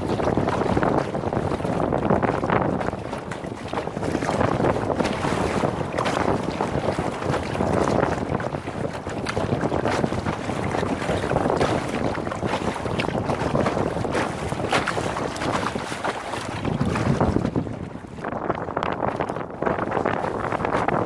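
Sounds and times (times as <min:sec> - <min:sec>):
water splashing around kayak: 0:00.0 - 0:21.0
wind buffeting microphone: 0:00.0 - 0:21.0.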